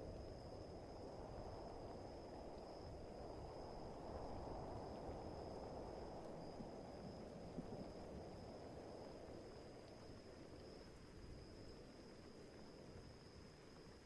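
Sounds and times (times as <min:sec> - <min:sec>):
rain and wind: 0:00.0 - 0:14.0.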